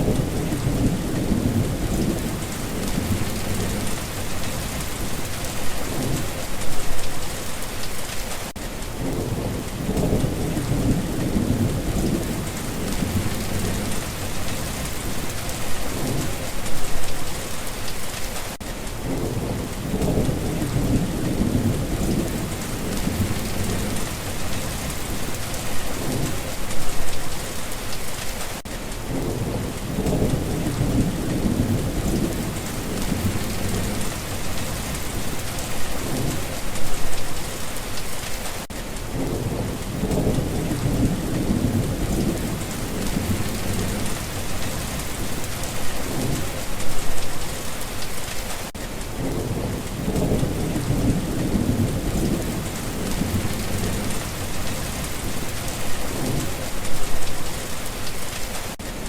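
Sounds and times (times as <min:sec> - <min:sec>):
thunder rumbling: 0:00.0 - 0:08.2, 0:08.9 - 0:17.5, 0:18.9 - 0:27.7, 0:29.0 - 0:37.8, 0:39.1 - 0:58.8
heavy rain falling: 0:00.0 - 0:59.0.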